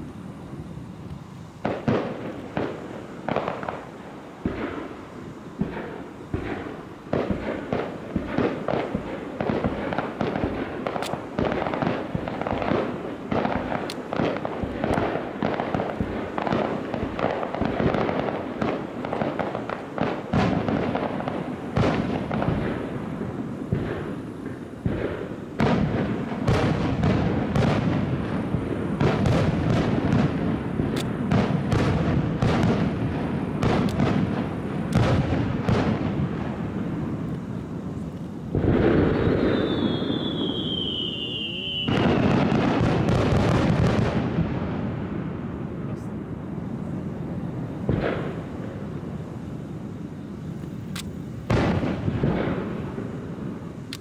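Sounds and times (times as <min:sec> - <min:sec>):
fireworks bursting: 0:00.0 - 0:54.0
fireworks crackle: 0:00.0 - 0:54.0.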